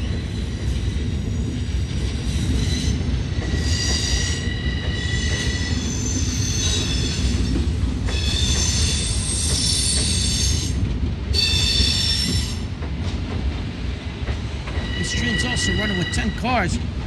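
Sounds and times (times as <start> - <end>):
train wheels squealing: 0.0 - 12.7, 14.7 - 16.2
train rumbling: 0.0 - 17.0.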